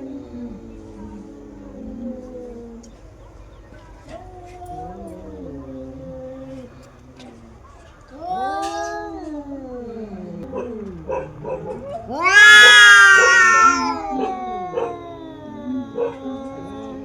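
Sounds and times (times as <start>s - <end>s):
cats yowling in a fight: 0.0s - 17.0s.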